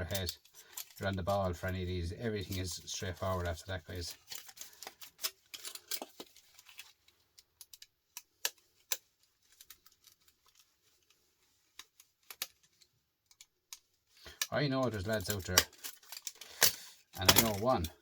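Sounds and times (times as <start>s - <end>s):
small parts being handled: 0.0s - 18.0s.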